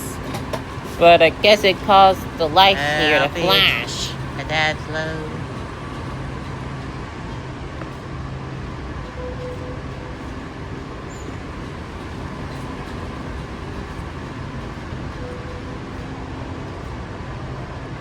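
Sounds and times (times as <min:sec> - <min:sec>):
rushing hum of metro station: 0:00.0 - 0:18.0.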